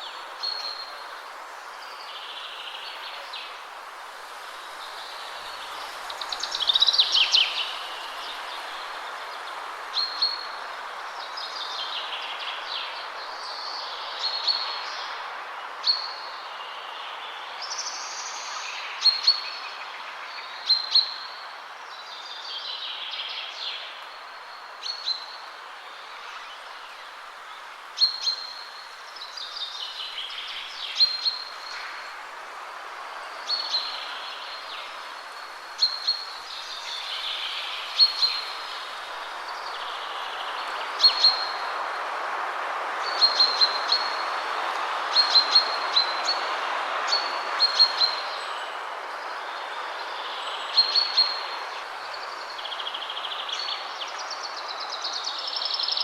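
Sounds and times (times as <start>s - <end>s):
wind rushing through trees: 0.0s - 56.0s
songbirds singing: 4.3s - 56.0s.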